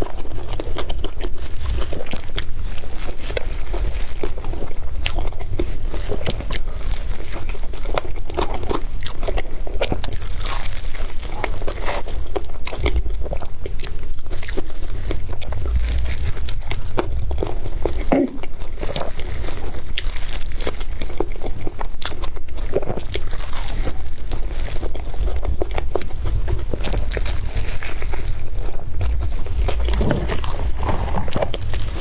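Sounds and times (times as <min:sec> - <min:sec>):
person biting and chewing food: 0:00.0 - 0:32.0.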